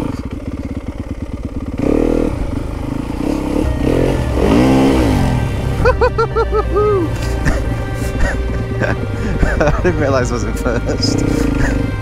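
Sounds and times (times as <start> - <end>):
dirt bike engine idling and revving: 0.0 - 12.0.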